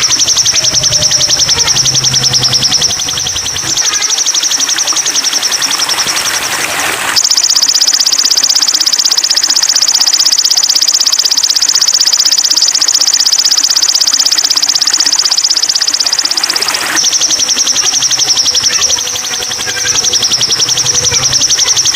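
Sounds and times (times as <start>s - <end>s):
high buzzing bird trill: 0.0s - 21.9s.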